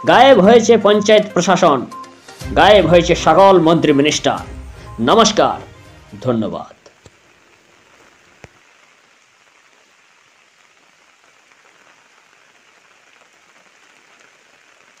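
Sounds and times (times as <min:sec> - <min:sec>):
rain falling on wet surface: 0:02.7 - 0:15.0.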